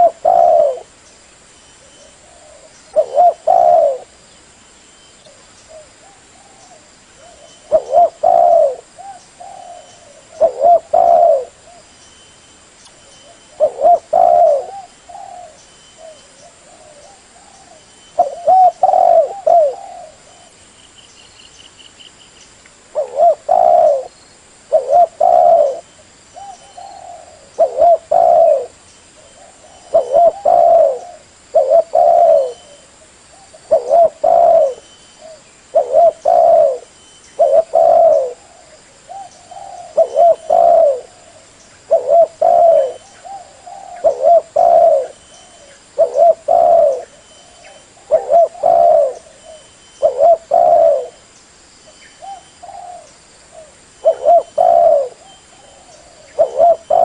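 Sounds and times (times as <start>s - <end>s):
dove cooing: 0.0s - 1.0s, 1.8s - 4.2s, 5.3s - 11.9s, 13.2s - 20.6s, 22.9s - 51.2s, 52.2s - 57.0s.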